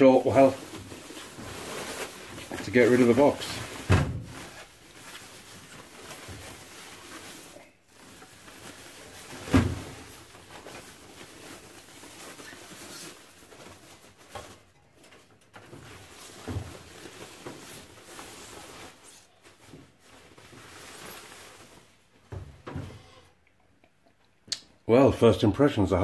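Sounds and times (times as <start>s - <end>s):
plastic bag rustling: 0.0s - 23.2s.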